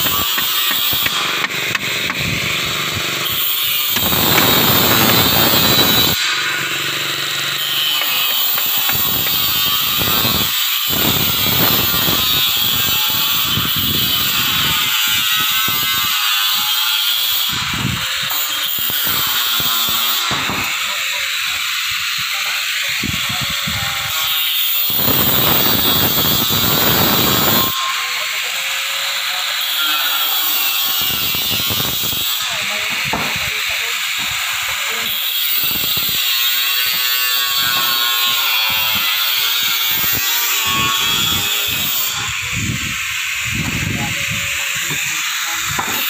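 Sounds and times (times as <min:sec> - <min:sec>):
angle grinder cutting steel: 0:00.0 - 0:46.0.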